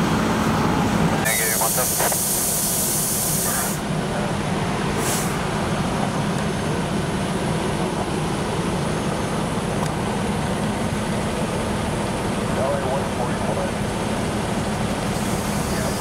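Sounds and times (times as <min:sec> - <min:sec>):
large vehicle engine rumbling: 0:00.0 - 0:16.0.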